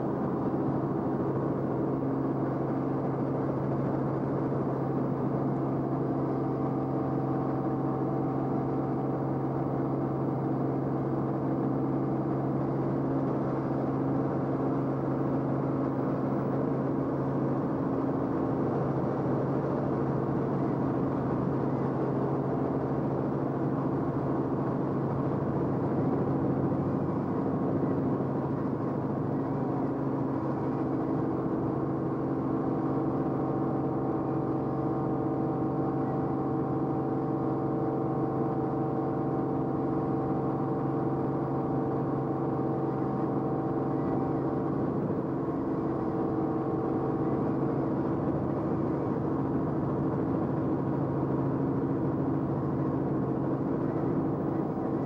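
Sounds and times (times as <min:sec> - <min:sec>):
aircraft engine drone in cabin: 0:00.0 - 0:55.0.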